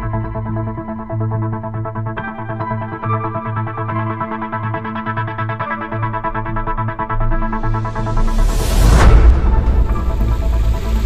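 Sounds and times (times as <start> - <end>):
synthesizer documentary music: 0.0 - 11.0.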